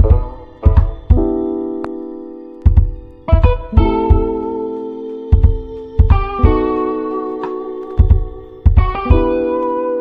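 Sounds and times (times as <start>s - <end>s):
keyboard chords over deep beat: 0.0s - 10.0s.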